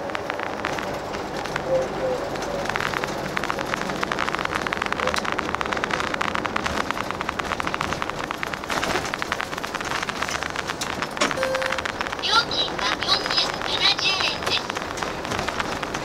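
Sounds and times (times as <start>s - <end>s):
dense rapid crackle: 0.0s - 16.0s
engine and road rumble: 0.0s - 16.0s.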